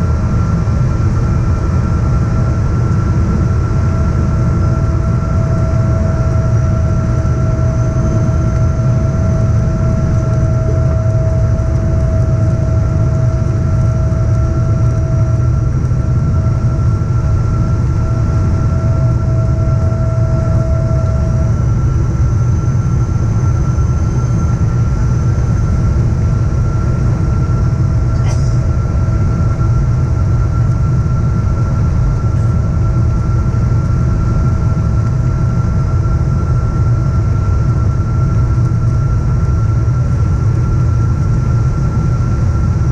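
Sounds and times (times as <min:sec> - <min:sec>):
airliner cabin engine rumble: 0:00.0 - 0:42.9
steady whine: 0:00.0 - 0:42.9.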